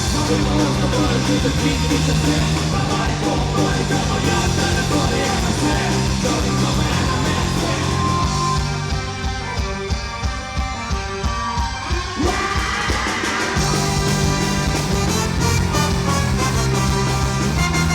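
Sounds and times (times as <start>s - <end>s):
live rock band playing: 0.0s - 17.9s.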